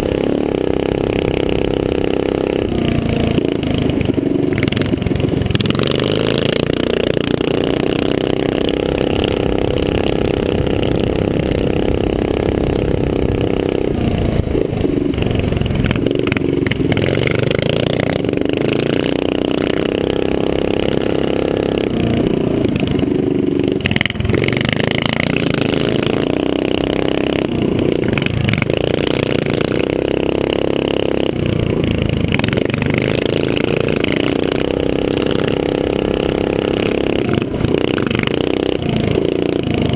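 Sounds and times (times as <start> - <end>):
small engine running hard: 0.0 - 39.9.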